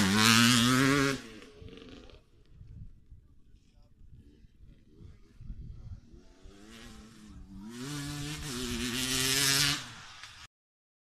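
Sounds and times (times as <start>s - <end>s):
dirt bike engine running hard: 0.0s - 10.5s.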